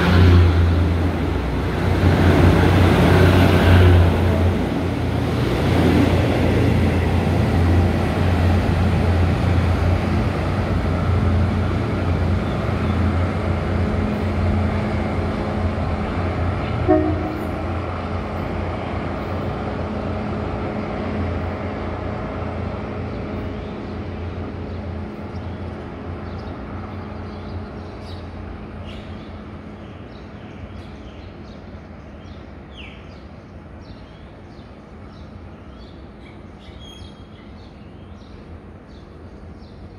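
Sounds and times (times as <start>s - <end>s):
diesel train engine drone: 0.0s - 39.9s.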